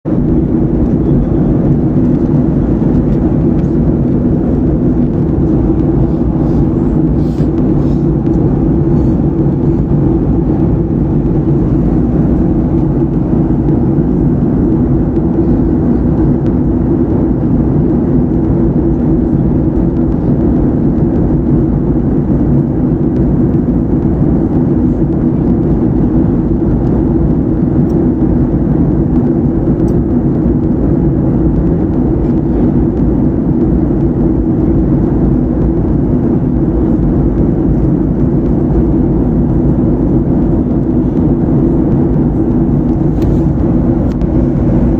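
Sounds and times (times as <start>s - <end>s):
jet engine drone in cabin: 0.0s - 44.9s.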